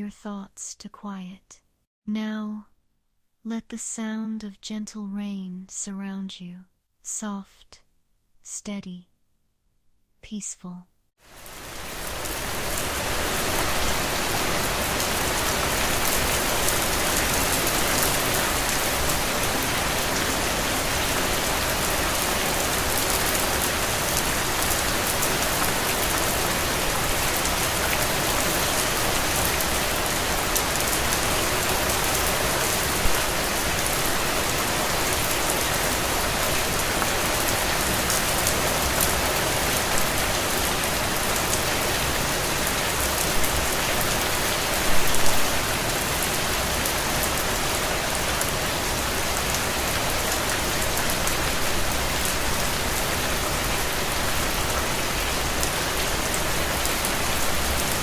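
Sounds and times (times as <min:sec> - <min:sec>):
rain on a window: 0:11.2 - 0:58.0.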